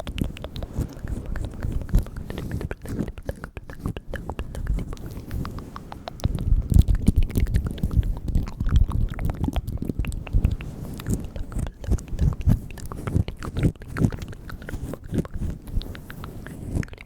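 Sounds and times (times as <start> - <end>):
wet mouth clicks and smacks: 0.0 - 17.0.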